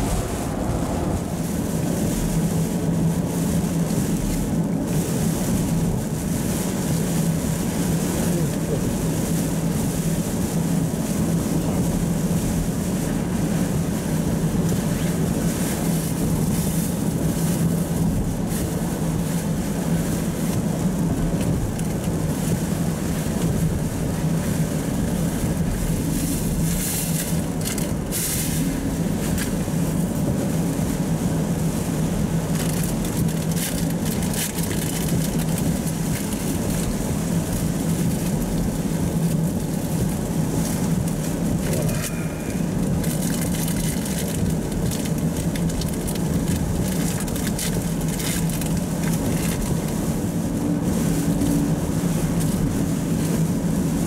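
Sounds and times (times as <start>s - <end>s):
engine and road drone: 0.0s - 54.0s
rain hitting windshield: 0.0s - 54.0s
tyres hissing on wet road: 0.0s - 54.0s.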